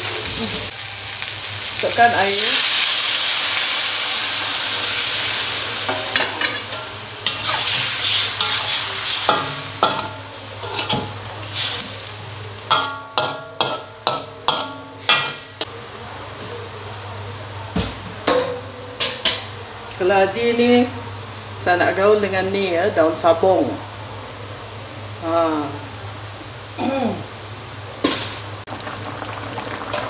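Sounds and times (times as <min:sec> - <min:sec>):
water sizzling in hot wok: 0:00.0 - 0:16.0, 0:19.0 - 0:30.0.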